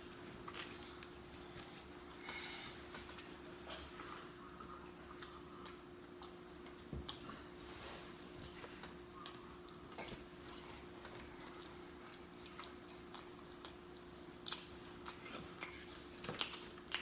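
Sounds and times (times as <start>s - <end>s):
chewing food: 0.0s - 17.0s
faint steady hum: 0.0s - 17.0s.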